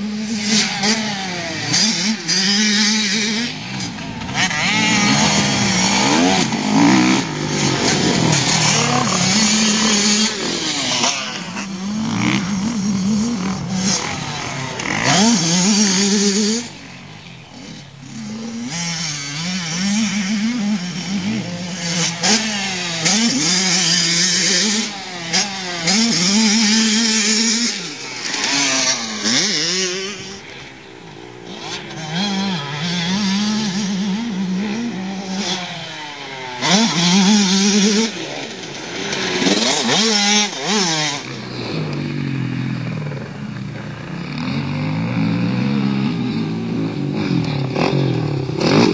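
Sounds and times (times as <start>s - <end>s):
motocross bike engines revving: 0.0s - 48.9s.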